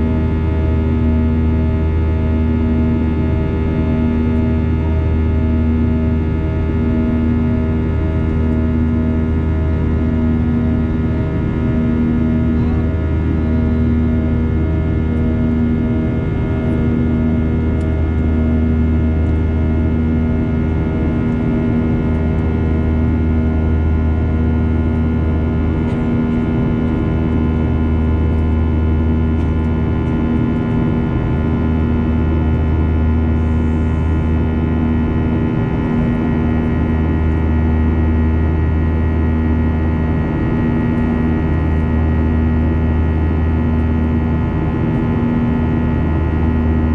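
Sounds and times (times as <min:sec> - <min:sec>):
airplane cabin drone: 0:00.0 - 0:46.9.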